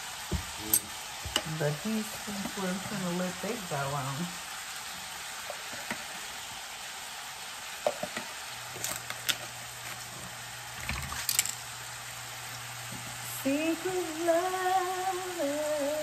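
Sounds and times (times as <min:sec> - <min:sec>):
beef sizzling in a skillet: 0:00.0 - 0:16.0.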